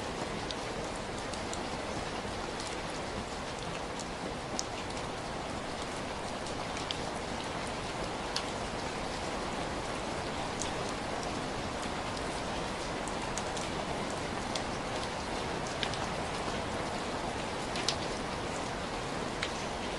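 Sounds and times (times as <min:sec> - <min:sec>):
heavy rain falling: 0:00.0 - 0:19.9.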